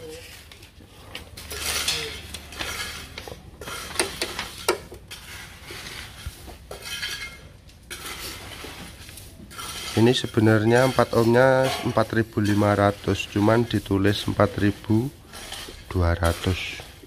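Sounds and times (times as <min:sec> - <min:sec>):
scraping and rustling: 0:00.0 - 0:17.0.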